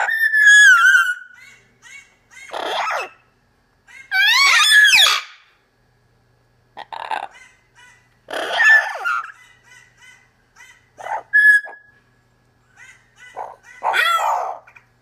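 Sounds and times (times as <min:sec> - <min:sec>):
parrots squawking: 0:00.0 - 0:03.3, 0:03.9 - 0:05.5, 0:06.8 - 0:11.9, 0:12.8 - 0:14.9.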